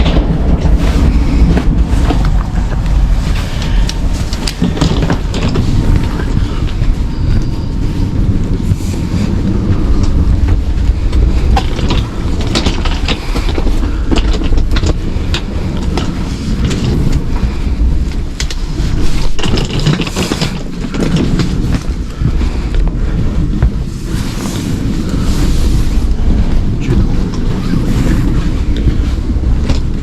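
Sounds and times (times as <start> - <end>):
clattering knocks and clicks: 0.0 - 30.0
railway carriage rumble: 0.0 - 30.0.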